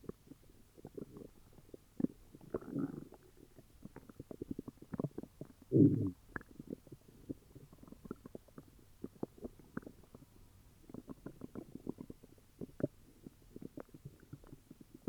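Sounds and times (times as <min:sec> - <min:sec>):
stomach gurgling and growling: 0:00.0 - 0:15.0.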